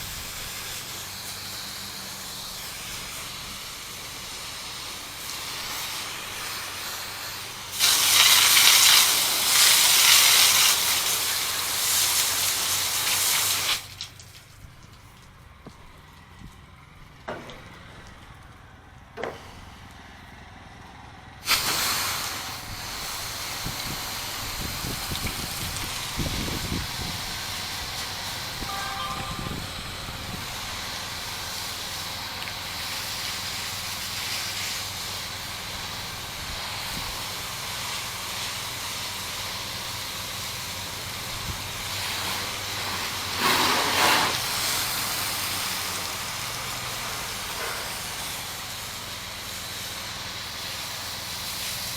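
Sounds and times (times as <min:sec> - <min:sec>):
water jet hissing: 0:00.0 - 0:15.2, 0:21.4 - 0:51.9
pressure washer humming: 0:00.0 - 0:51.9.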